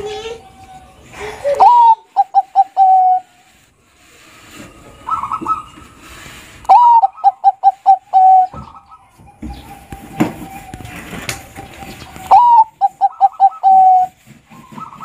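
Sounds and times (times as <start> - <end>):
dove cooing song: 0.5 - 3.7, 4.5 - 15.0.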